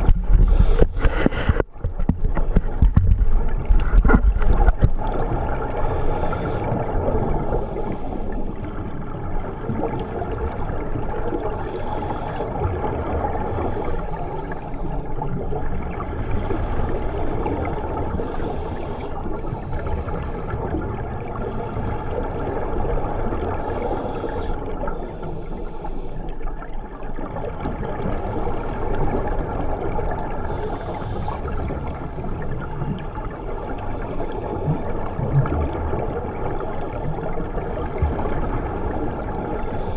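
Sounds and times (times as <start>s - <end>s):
underwater rush: 0.0s - 39.9s.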